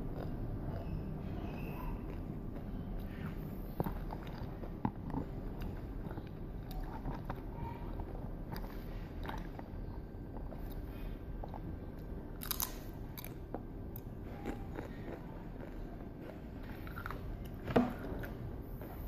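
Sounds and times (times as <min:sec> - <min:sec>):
person chewing crunchy food: 0:00.0 - 0:19.0
steady low hum: 0:00.0 - 0:19.0.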